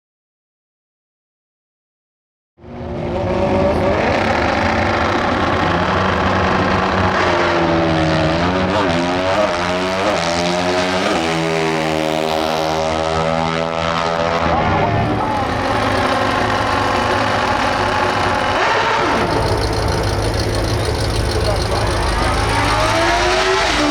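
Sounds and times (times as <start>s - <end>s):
motorcycle engine revving loudly: 2.7s - 23.9s.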